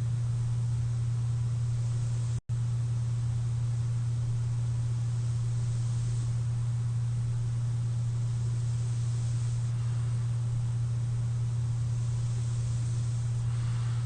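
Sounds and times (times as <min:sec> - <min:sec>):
faint air hiss: 0:00.0 - 0:14.0
machine low hum: 0:00.0 - 0:14.0.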